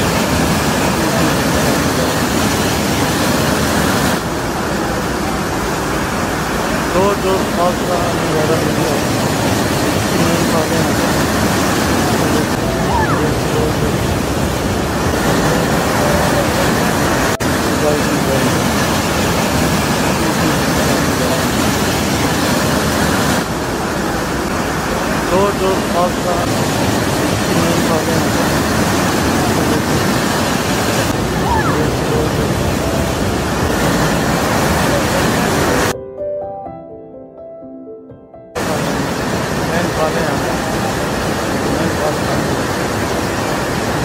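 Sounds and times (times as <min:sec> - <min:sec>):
waterfall rushing: 0:00.0 - 0:36.0, 0:38.6 - 0:44.0.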